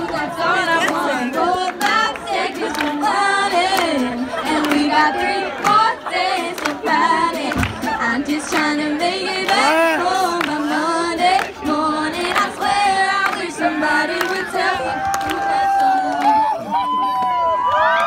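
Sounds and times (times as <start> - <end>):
girls singing into microphones: 0.0 - 16.4.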